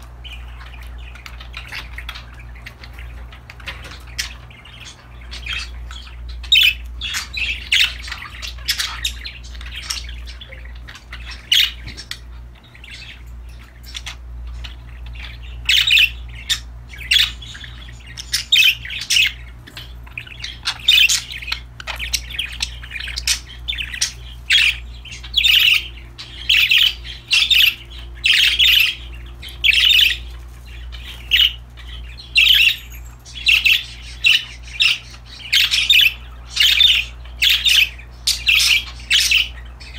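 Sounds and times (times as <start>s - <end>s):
budgerigars chirping: 0.0s - 39.9s
steady low hum: 0.0s - 39.9s.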